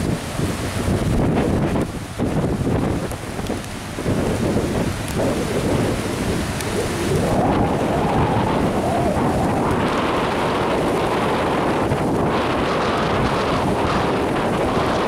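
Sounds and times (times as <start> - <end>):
breaking surf: 0.0 - 15.0
wind buffeting microphone: 0.0 - 15.0.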